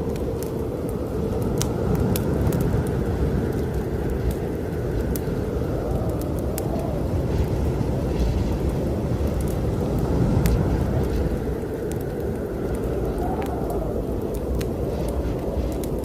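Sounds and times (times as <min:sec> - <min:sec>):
storm wind blowing: 0:00.0 - 0:16.0
wood fire crackling: 0:00.0 - 0:16.0.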